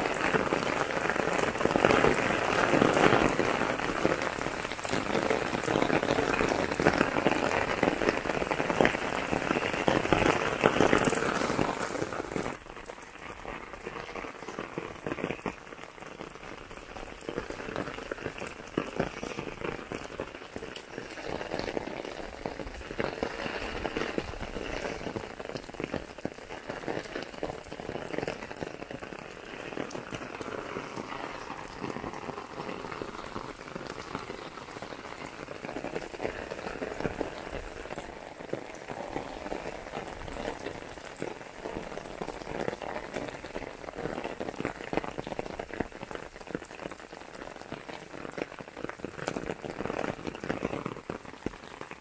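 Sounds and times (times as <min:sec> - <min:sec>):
rain pattering on umbrella: 0:00.0 - 0:52.0.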